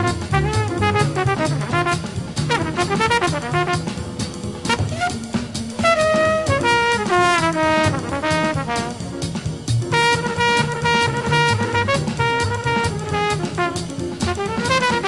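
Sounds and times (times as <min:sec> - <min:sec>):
drums: 0:00.0 - 0:15.0
trumpet melody: 0:00.0 - 0:15.0
walking bass line: 0:00.0 - 0:15.0.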